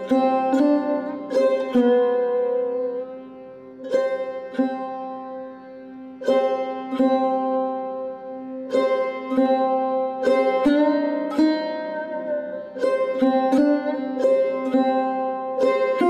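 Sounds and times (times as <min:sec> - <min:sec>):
plucked string music: 0:00.0 - 0:16.0.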